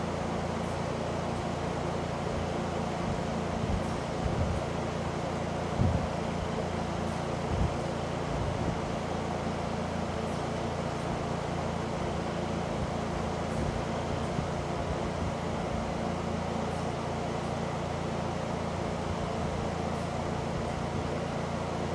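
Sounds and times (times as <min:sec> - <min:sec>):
electric fan whooshing hum: 0:00.0 - 0:21.9.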